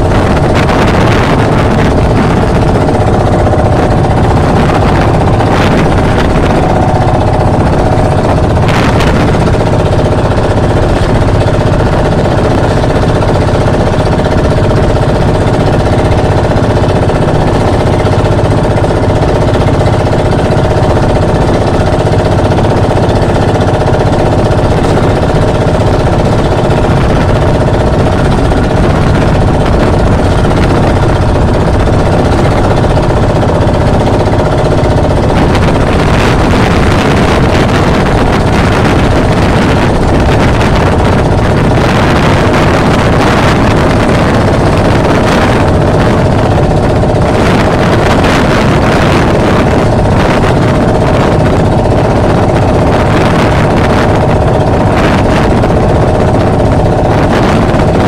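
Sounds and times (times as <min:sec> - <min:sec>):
boat engine running: 0:00.0 - 0:58.0
rushing water: 0:00.0 - 0:58.0
wind noise on microphone: 0:00.0 - 0:58.0.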